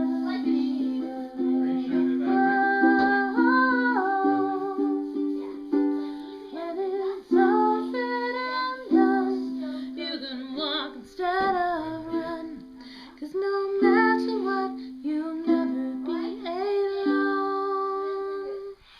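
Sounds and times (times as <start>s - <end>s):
ukulele strumming: 0.0s - 18.8s
woman singing: 0.0s - 18.8s.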